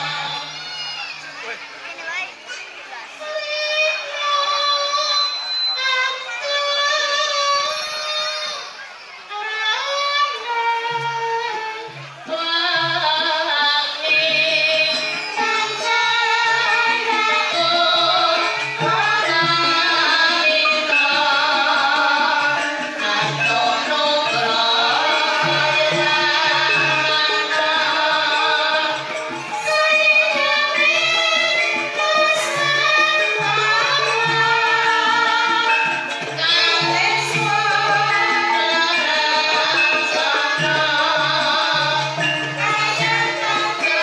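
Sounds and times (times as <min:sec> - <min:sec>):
gamelan ensemble playing: 0:00.0 - 0:04.3, 0:06.2 - 0:44.0.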